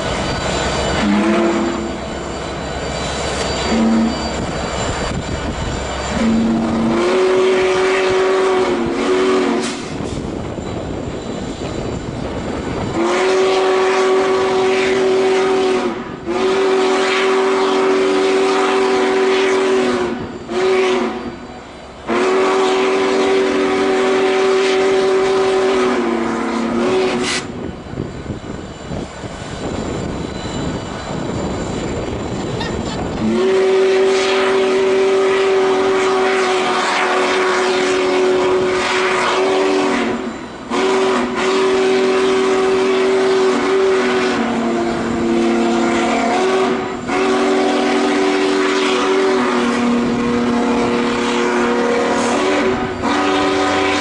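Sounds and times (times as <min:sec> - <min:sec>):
rushing steam hiss: 0:00.0 - 0:54.0
steam locomotive whistle chord: 0:00.0 - 0:54.0.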